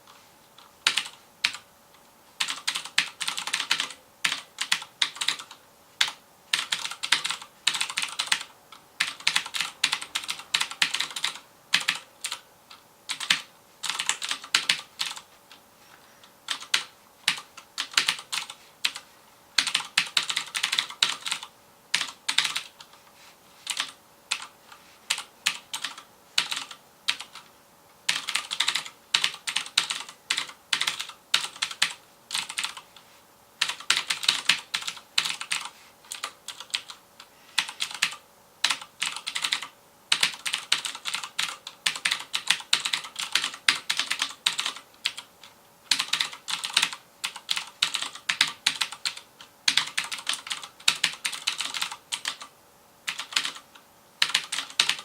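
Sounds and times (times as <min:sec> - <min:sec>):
clicky mechanical keyboard typing: 0:00.6 - 0:01.6, 0:02.4 - 0:15.6, 0:16.5 - 0:19.0, 0:19.6 - 0:23.0, 0:23.6 - 0:24.5, 0:25.1 - 0:27.5, 0:28.1 - 0:32.9, 0:33.6 - 0:37.0, 0:37.6 - 0:52.5, 0:53.1 - 0:55.0.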